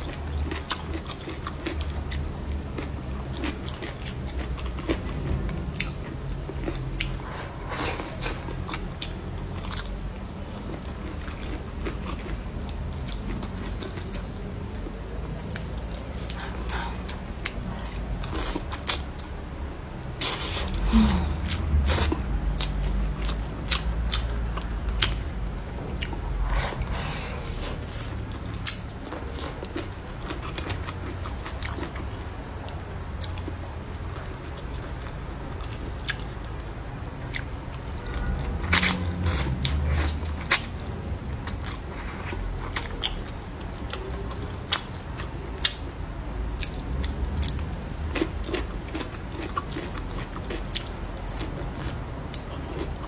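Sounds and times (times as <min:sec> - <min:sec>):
chewing: 0:00.0 - 0:25.3, 0:25.9 - 0:45.9, 0:46.6 - 0:53.0.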